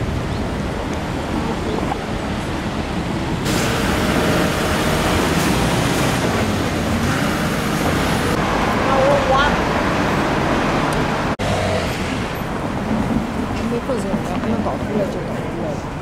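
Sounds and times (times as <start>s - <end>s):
street traffic: 0.0s - 16.0s
wind: 0.0s - 16.0s.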